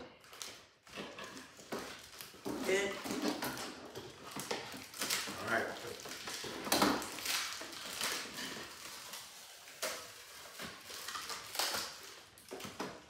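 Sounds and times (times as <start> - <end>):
cardboard and plastic bag rustling: 0.2 - 13.0.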